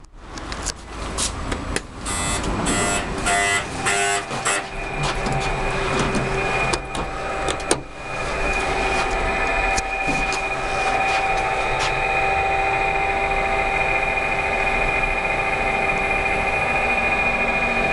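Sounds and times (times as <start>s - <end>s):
elevator machinery whine and hum: 1.8s - 17.9s
elevator door buzzer beeps: 2.0s - 17.9s.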